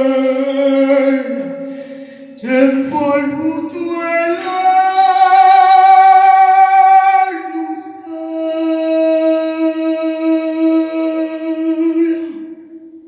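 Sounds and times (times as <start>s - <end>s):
person singing sustained notes: 0.0s - 13.0s.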